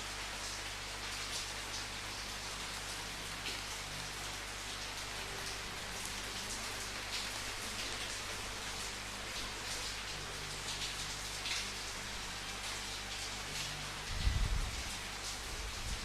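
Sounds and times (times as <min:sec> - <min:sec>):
rain hissing: 0:00.0 - 0:16.0
raindrops pattering on a surface: 0:00.0 - 0:16.0.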